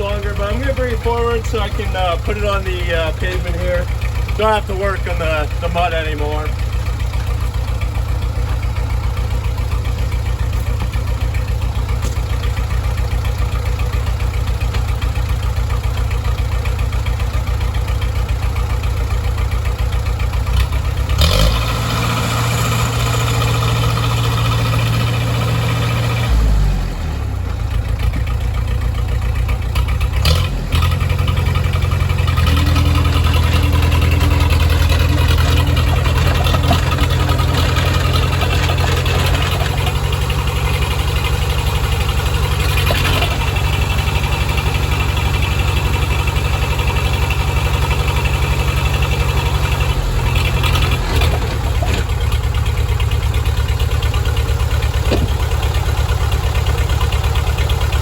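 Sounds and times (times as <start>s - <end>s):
diesel dozer engine running: 0.0s - 58.0s.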